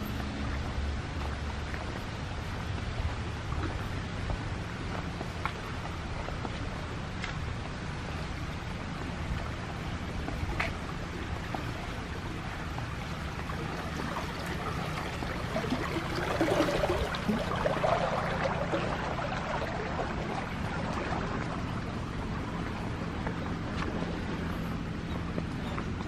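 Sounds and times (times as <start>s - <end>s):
water rushing in a channel: 0.0s - 26.0s.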